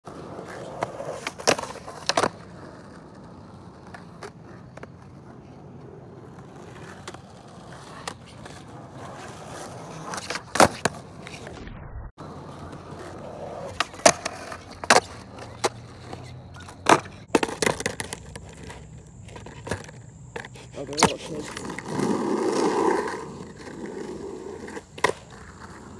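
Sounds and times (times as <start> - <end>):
skateboard wheels rolling on concrete: 0.0 - 25.9
skateboard slapping the ground: 0.1 - 11.6, 12.2 - 25.9.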